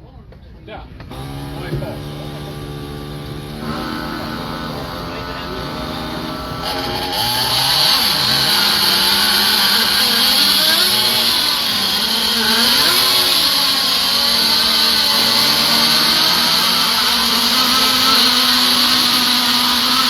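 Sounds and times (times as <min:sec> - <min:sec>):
model boat engines whining: 0:01.0 - 0:20.0.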